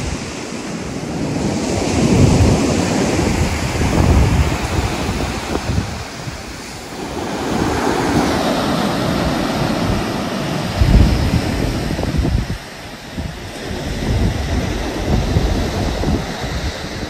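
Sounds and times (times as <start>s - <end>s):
ocean surf breaking on beach: 0.0s - 17.0s
wind rumbling on microphone: 0.0s - 17.0s.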